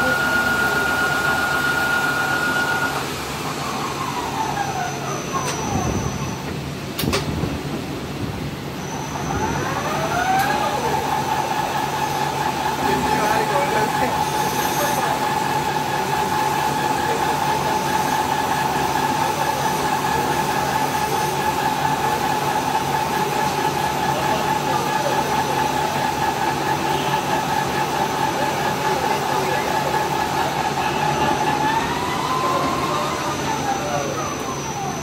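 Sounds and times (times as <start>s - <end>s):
lathe spindle whine: 0.0s - 6.5s, 8.6s - 35.0s.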